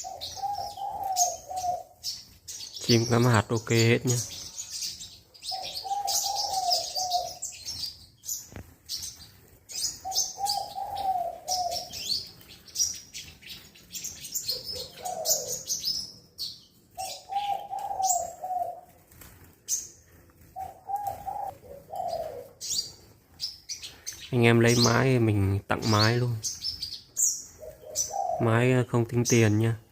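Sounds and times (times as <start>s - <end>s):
dove cooing: 0.0s - 7.9s, 9.0s - 29.9s
sunbird chirping and singing: 0.0s - 18.9s, 19.6s - 29.9s.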